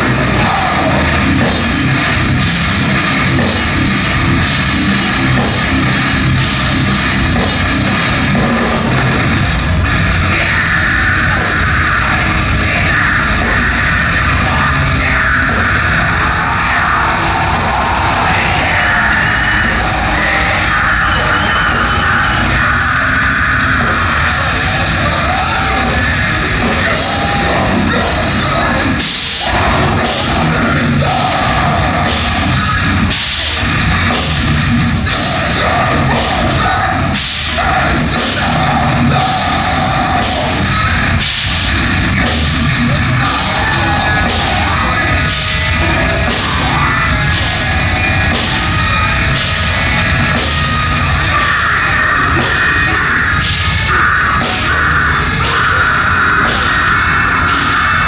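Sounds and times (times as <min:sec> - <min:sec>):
heavy drum strikes: 0:00.0 - 0:58.0
heavy metal band playing: 0:00.0 - 0:58.0
yelled vocals: 0:00.0 - 0:58.0.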